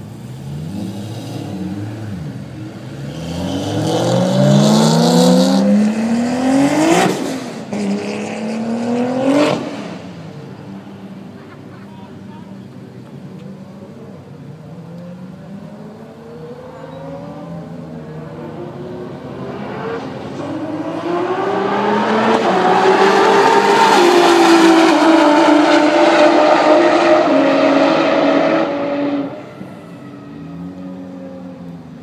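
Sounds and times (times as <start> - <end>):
race car engines accelerating: 0.0 - 32.0.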